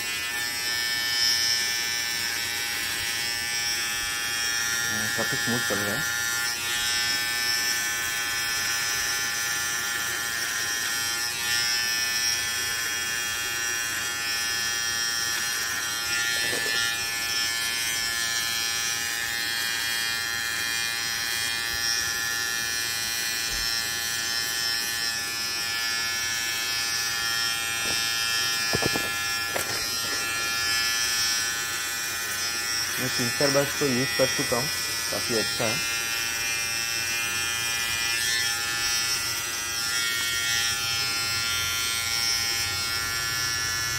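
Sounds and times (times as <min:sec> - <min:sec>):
beard trimmer buzzing: 0:00.0 - 0:43.9.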